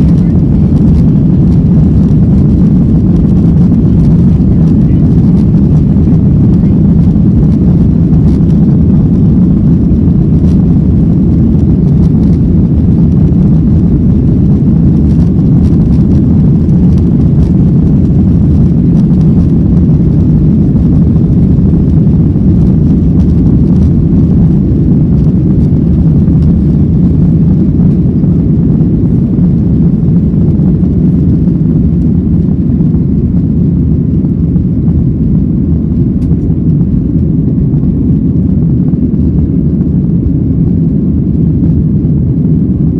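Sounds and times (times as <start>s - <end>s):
jet engines low rumble: 0.0s - 42.9s.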